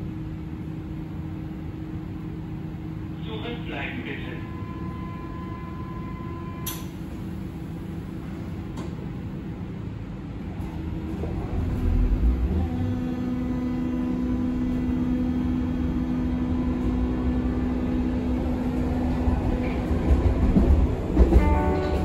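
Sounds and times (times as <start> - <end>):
train traction hum: 0.0 - 22.0
wheel and rail rumble: 0.0 - 22.0.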